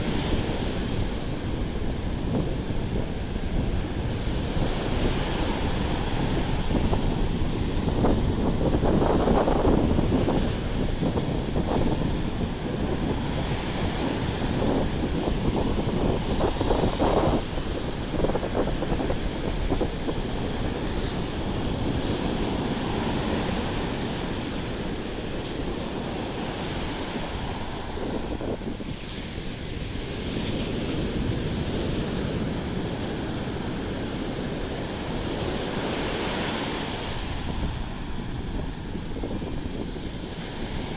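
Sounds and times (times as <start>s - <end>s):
waves breaking on beach: 0.0s - 40.9s
wind buffeting microphone: 0.0s - 40.9s.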